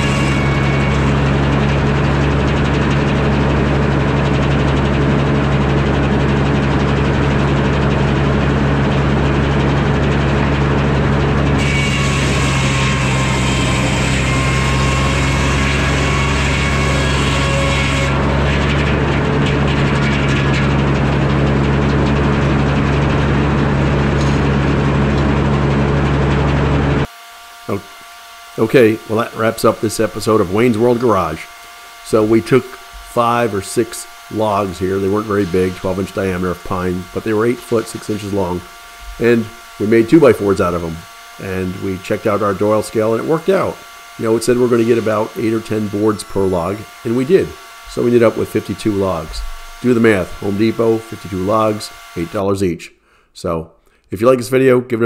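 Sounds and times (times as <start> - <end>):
saw blade cutting log: 0.0 - 52.5
sawmill engine running: 0.0 - 52.6.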